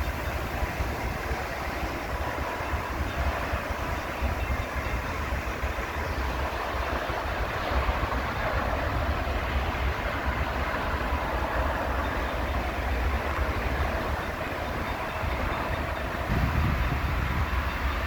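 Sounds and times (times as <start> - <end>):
town traffic noise: 0.0 - 18.0.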